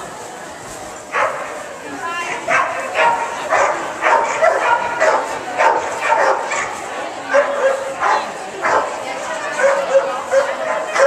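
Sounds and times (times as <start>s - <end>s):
dog barking excitedly: 1.1s - 1.5s, 2.3s - 11.0s.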